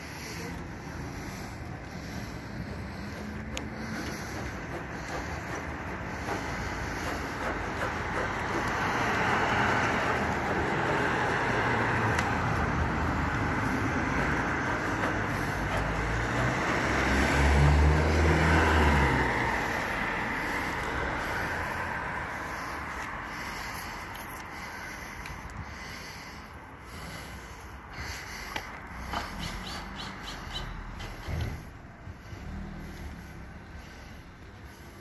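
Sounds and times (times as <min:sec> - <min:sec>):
road traffic passing: 0:00.0 - 0:35.0
vehicle engine rumble: 0:00.0 - 0:35.0.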